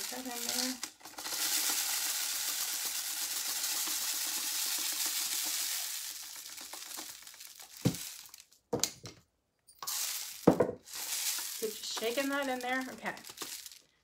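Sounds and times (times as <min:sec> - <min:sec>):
rice grains pouring through funnel: 0:00.0 - 0:08.6, 0:09.8 - 0:14.0.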